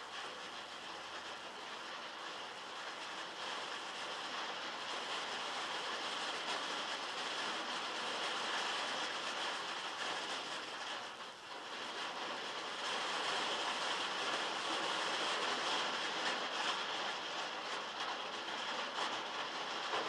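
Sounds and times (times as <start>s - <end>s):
heavy rain on metal: 0.0s - 20.0s.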